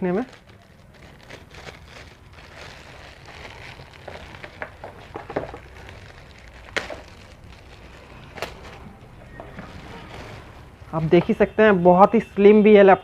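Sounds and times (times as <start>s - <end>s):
packaging rustling: 0.0s - 11.4s.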